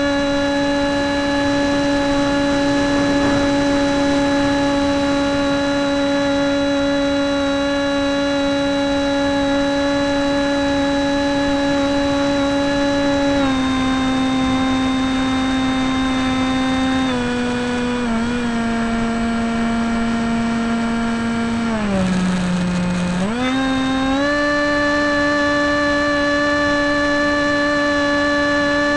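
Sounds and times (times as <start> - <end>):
model plane motor drone: 0.0 - 28.9.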